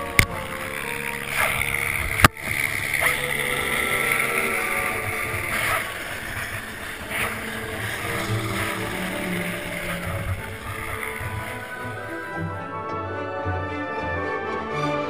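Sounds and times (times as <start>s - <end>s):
sharp clicks: 0.0s - 12.3s
helicopter rotor and engine: 0.0s - 12.8s.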